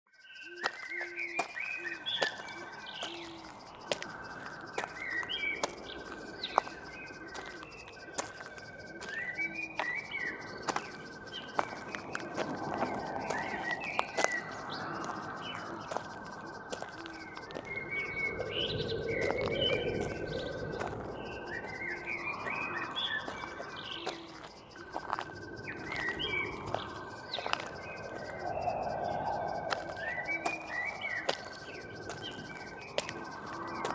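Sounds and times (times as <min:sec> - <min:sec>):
buzzy bird trill: 0:00.2 - 0:33.9
birds chirping and calling: 0:00.4 - 0:33.9
sharp clicks: 0:00.5 - 0:33.9.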